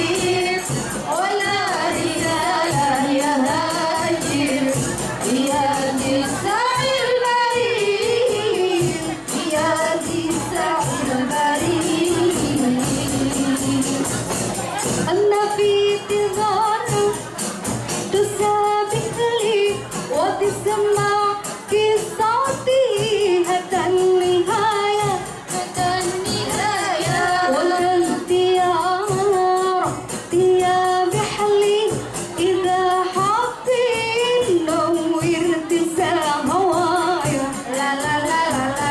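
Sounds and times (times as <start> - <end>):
women singing: 0.0 - 14.3, 15.1 - 17.3, 18.1 - 38.9
frame drums beating: 0.0 - 38.9.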